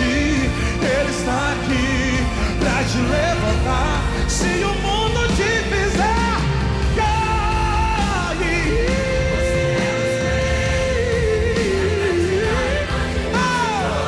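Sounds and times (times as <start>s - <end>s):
live band playing: 0.0s - 14.0s
man singing into microphone: 0.0s - 14.0s.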